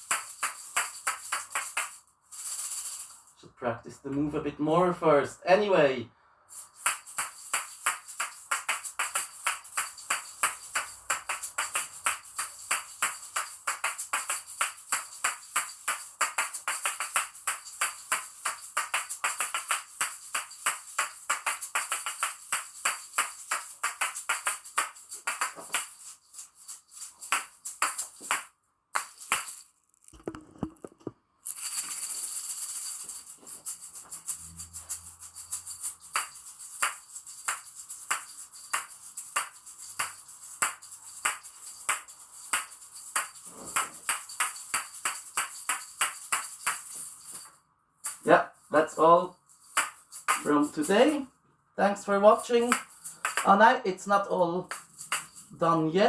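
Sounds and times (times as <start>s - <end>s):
shaker balls clacking: 0.0s - 3.4s, 6.5s - 51.3s, 52.4s - 53.6s, 54.4s - 55.9s
shaker rattling: 0.0s - 3.4s, 6.5s - 51.4s, 52.4s - 53.6s, 54.6s - 55.9s.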